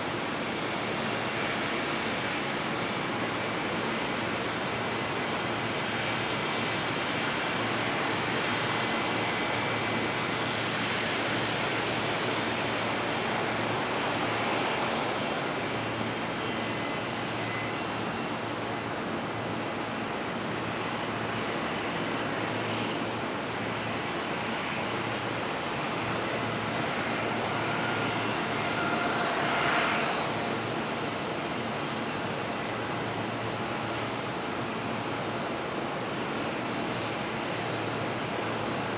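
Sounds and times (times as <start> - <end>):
jet engine whine and rush: 0.0 - 38.9.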